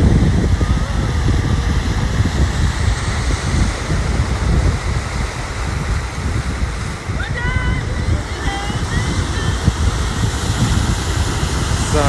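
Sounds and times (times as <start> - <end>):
ocean surf on a beach: 0.0 - 12.0
wind buffeting microphone: 0.0 - 12.0.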